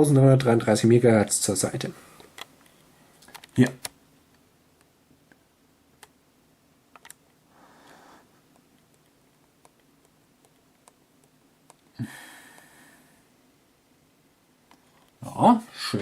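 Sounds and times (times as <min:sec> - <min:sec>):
computer fan hum: 0:00.0 - 0:16.0.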